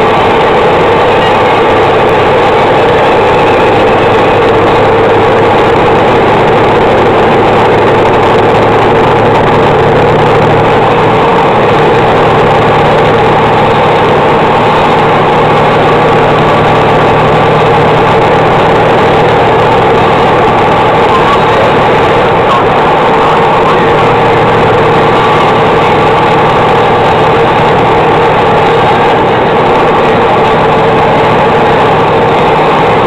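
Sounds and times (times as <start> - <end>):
low hum: 0.0 - 33.0
vehicle engine and road drone: 0.0 - 33.0.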